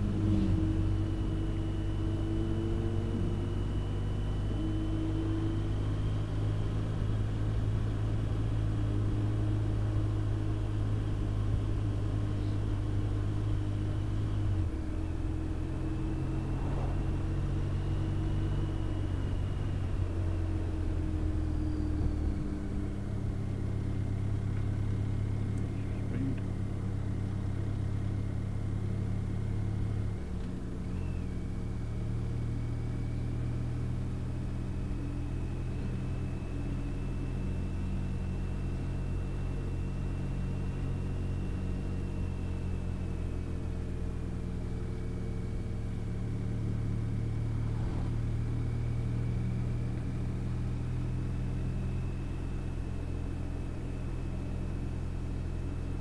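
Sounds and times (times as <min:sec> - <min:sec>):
faint high whine: 0:00.0 - 0:56.0
motorcycle engine humming: 0:00.0 - 0:56.0.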